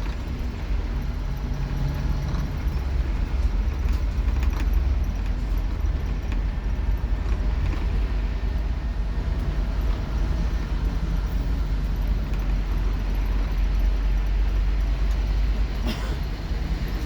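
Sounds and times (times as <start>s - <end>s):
bus diesel engine droning: 0.0s - 17.0s
cabin and road noise: 0.0s - 17.0s.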